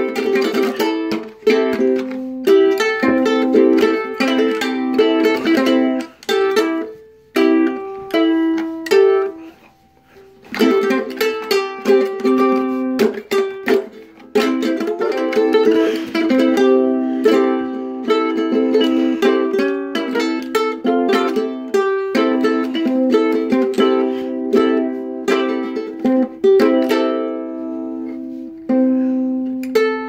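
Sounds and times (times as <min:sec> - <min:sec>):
ukulele strummed and plucked: 0:00.0 - 0:30.0.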